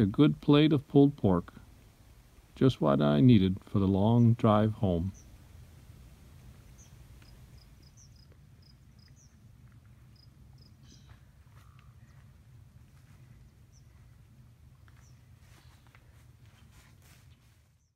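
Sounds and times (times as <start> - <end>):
low steady hum: 0.0 - 17.6.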